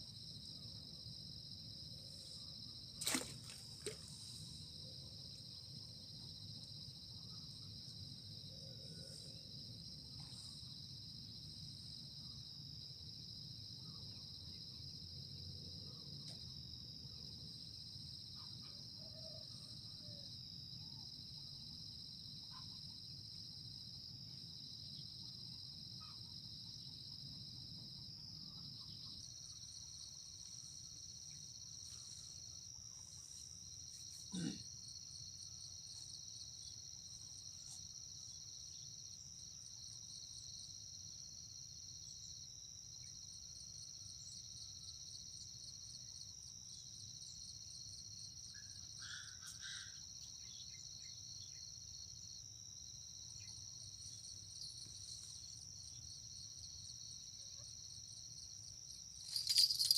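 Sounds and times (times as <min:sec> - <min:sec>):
cricket chorus: 0:00.0 - 0:59.9.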